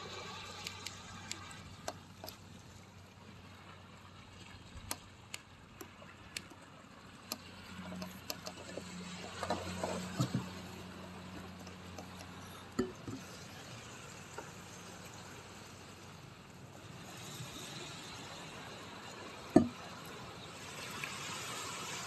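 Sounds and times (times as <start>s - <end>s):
small waves lapping and splashing: 0.0s - 22.0s.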